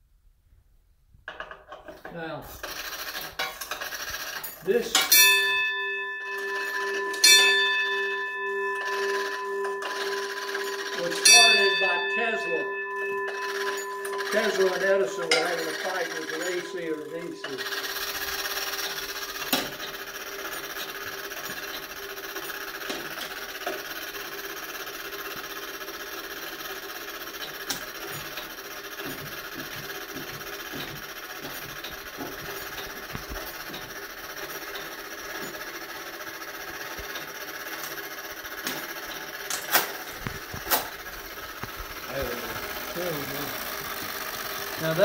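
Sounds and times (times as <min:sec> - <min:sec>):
sharp mechanical clacks: 0:01.3 - 0:05.5, 0:06.4 - 0:45.0
fire alarm register whirring: 0:02.2 - 0:45.0.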